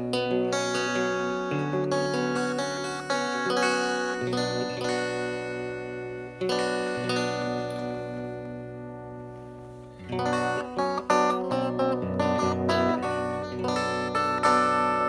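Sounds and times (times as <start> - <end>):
electric guitar chords and notes: 0.0 - 15.0.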